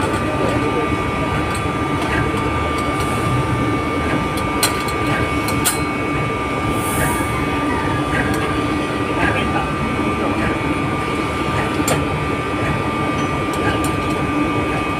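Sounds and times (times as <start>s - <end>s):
machinery hum with whine: 0.0s - 14.9s.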